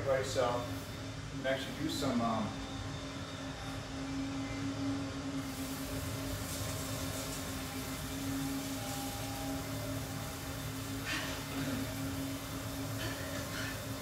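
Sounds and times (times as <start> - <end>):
motor or fan humming: 0.0 - 14.0.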